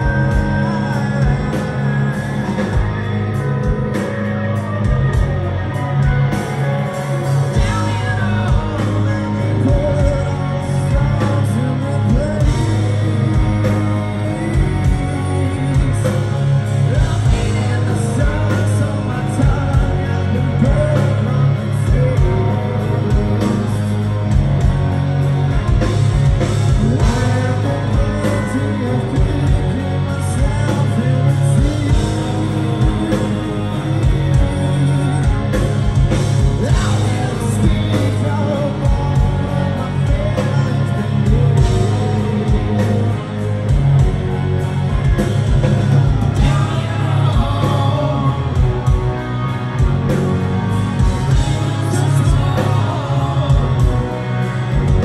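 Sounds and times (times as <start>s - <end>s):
bass guitar: 0.0s - 55.0s
distorted electric guitars: 0.0s - 55.0s
drums: 0.0s - 55.0s
man singing lead vocal: 0.0s - 55.0s.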